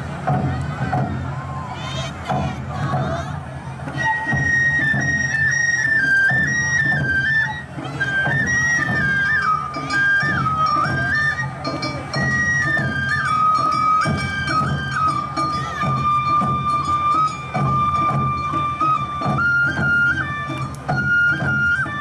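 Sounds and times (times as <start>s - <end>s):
bamboo flute melody: 0.0s - 22.0s
drums: 0.0s - 22.0s.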